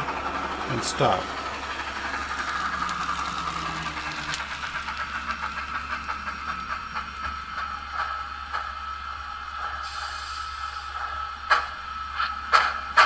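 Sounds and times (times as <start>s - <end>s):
steady steam hiss: 0.0s - 13.0s
steam locomotive exhaust chuffs: 0.0s - 13.0s.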